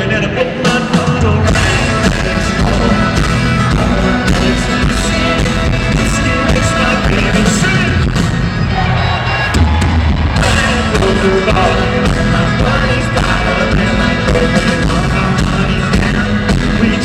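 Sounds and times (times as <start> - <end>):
live country rock band: 0.0 - 17.0.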